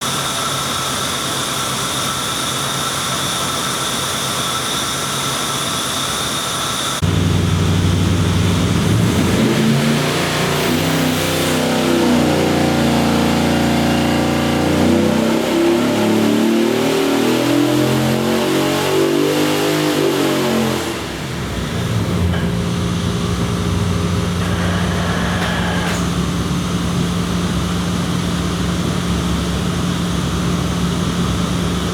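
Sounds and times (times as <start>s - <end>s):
engine running on a dyno: 0.0s - 31.9s.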